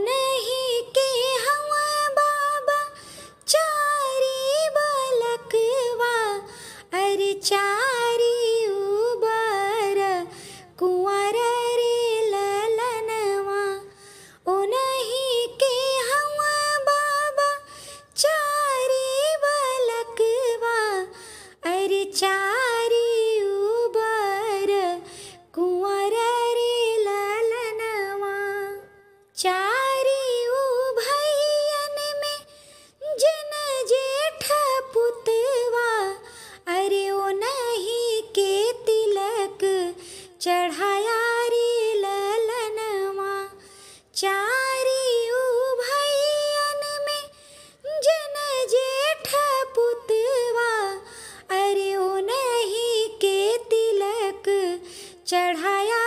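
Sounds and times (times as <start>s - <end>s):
woman singing unaccompanied: 0.0s - 56.0s.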